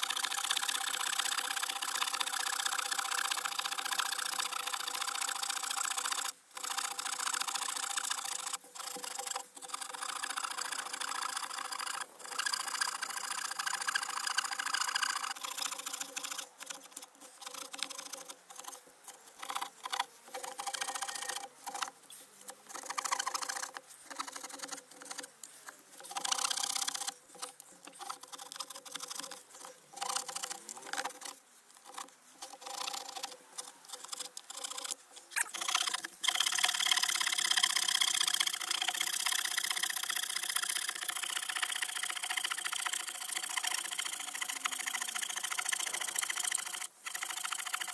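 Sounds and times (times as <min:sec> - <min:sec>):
small saw cutting wood: 0:00.0 - 0:47.9.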